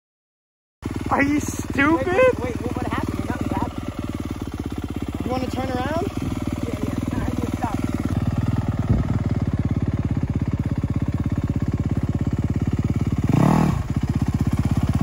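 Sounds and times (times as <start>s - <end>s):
dirt bike engine running: 0.8s - 15.0s.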